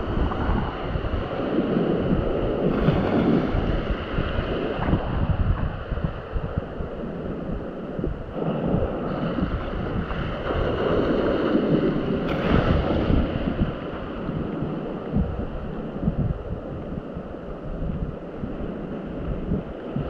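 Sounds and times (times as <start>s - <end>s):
sea waves washing: 0.0s - 20.0s
wind buffeting microphone: 0.0s - 20.0s.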